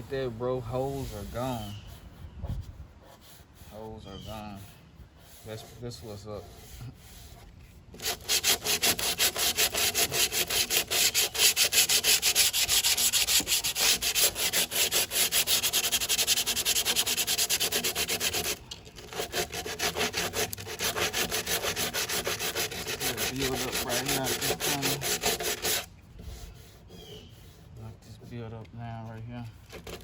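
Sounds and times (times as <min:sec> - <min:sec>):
sandpaper scraping body filler: 0:00.0 - 0:30.0.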